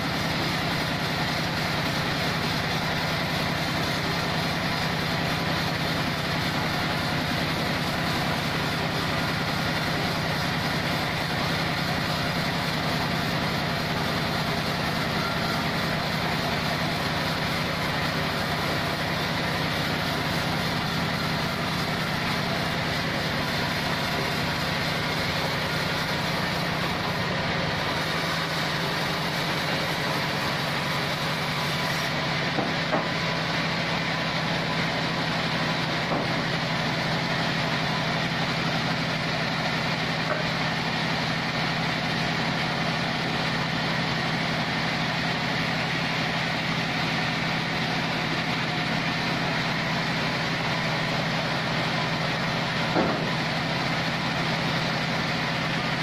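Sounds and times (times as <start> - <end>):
sawmill band saw running: 0.0 - 56.0.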